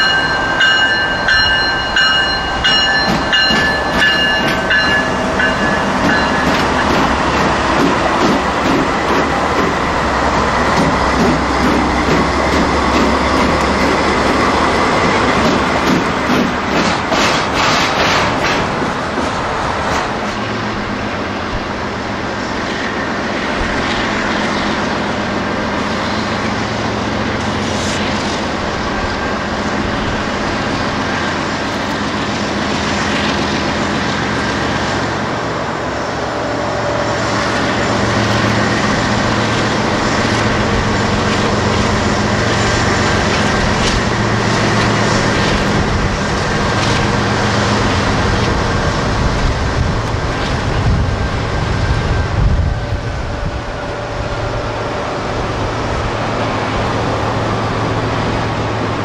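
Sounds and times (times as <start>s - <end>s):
steel wheels on rail: 0.0s - 59.0s.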